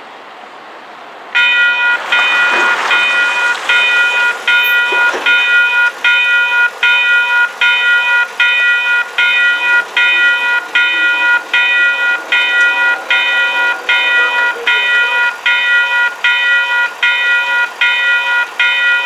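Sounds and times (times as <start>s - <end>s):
level crossing warning bell ringing: 1.4s - 19.0s.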